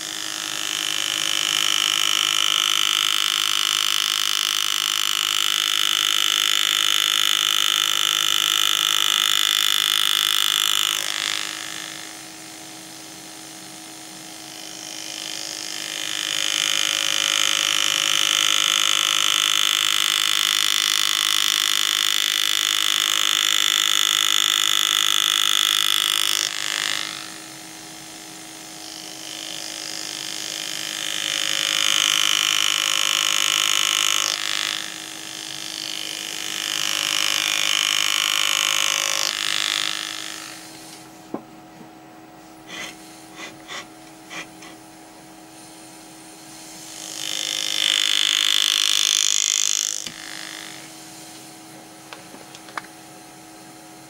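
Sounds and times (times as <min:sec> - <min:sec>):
pneumatic graver whining: 0:00.0 - 0:41.4, 0:42.4 - 0:54.0.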